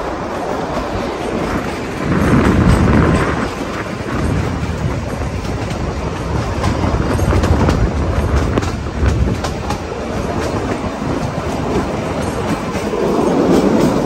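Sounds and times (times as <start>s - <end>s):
train carriage rumble: 0.0s - 14.0s
wheels clicking on rails: 0.0s - 14.0s.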